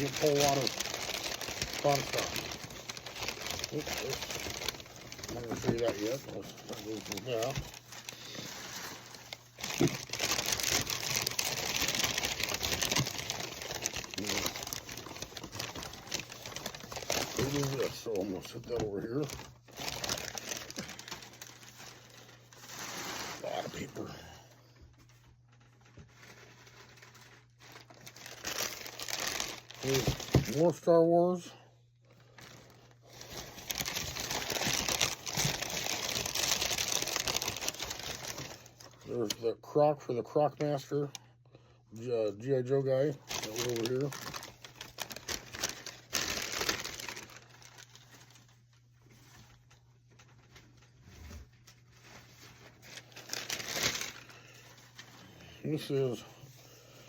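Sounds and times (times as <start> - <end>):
packing paper rustling and crumpling: 0.0 - 31.5, 32.1 - 41.1, 42.3 - 57.0.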